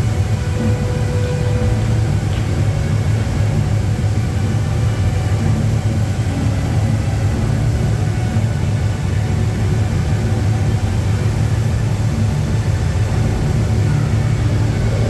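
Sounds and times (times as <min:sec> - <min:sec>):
waterfall rumbling: 0:00.0 - 0:15.0.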